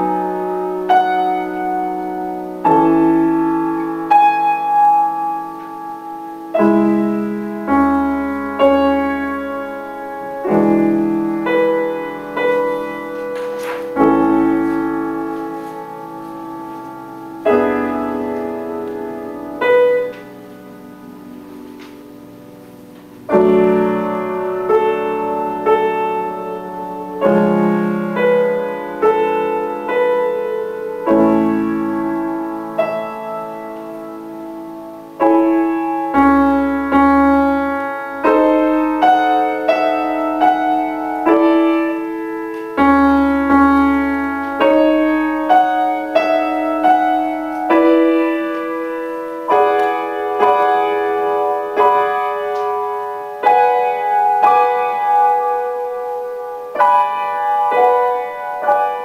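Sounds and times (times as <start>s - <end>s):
grand piano chords: 0.0s - 59.0s.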